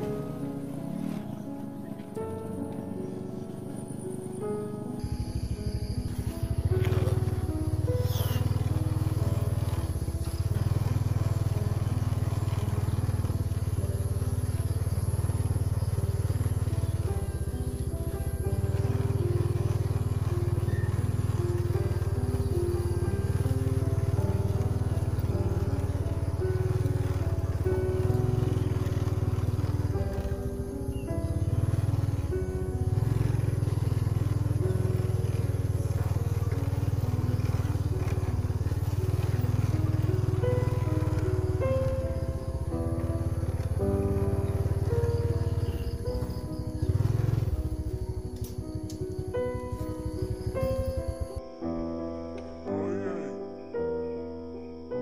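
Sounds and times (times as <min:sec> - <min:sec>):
small motorcycle engine running: 0:00.0 - 0:53.4
music melody: 0:00.0 - 0:55.0.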